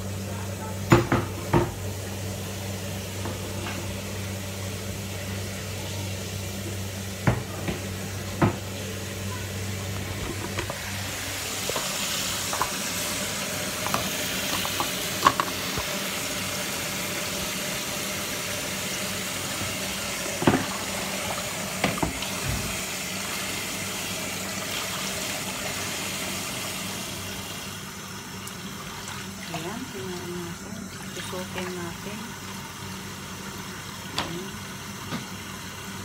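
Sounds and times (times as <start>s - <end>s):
tap water running into sink: 0.0s - 4.3s, 4.9s - 36.0s.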